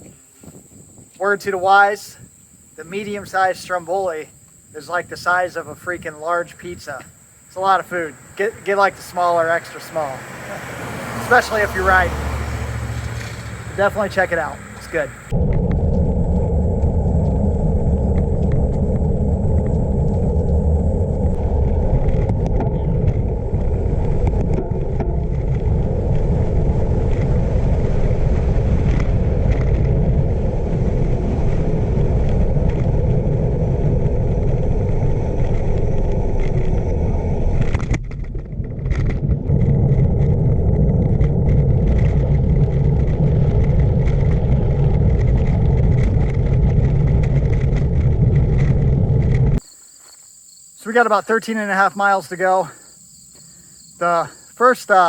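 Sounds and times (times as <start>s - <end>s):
wind rumbling on microphone: 0.0s - 49.7s.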